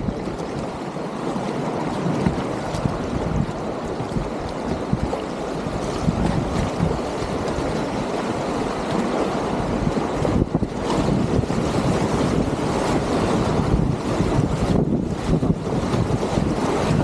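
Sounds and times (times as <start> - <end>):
river rapids rushing and splashing: 0.0 - 17.0
wind buffeting microphone: 0.0 - 17.0.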